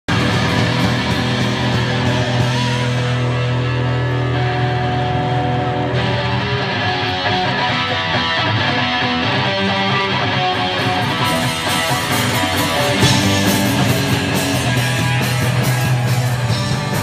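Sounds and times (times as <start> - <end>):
distorted electric guitar chord: 0.1 - 17.0
live rock band playing: 0.1 - 17.0.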